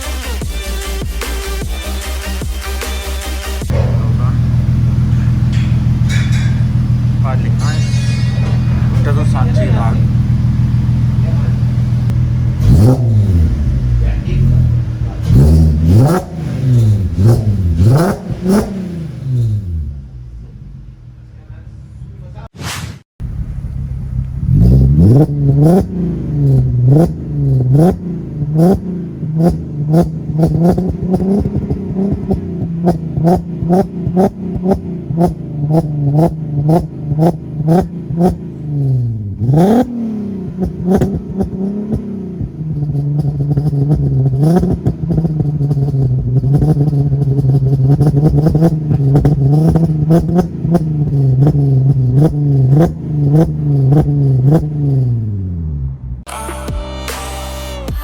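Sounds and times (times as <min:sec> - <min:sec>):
car engine revving: 0:00.0 - 0:22.4, 0:23.2 - 0:56.3.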